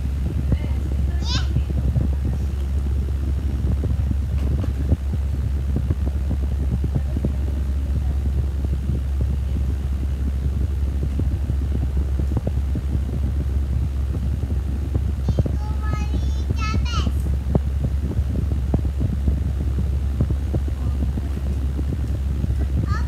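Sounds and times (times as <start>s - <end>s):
microphone knocks and rustles: 0.0s - 15.6s, 17.2s - 23.0s
low microphone rumble: 0.0s - 23.0s.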